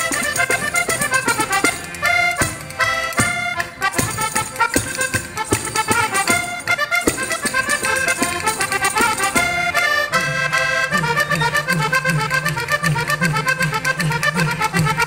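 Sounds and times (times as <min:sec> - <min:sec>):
steady percussive beat: 0:00.0 - 0:09.9, 0:10.5 - 0:15.0
button accordion dance music: 0:00.0 - 0:15.0.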